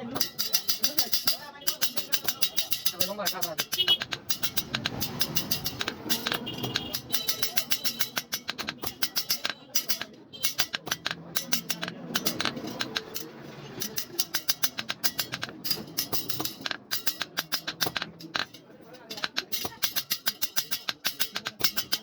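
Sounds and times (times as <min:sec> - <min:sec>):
rapid sharp taps: 0:00.0 - 0:22.0.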